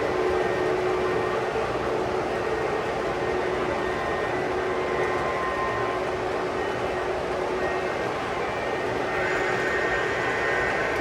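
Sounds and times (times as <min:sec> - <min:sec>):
constant humming tones: 0:00.0 - 0:11.0.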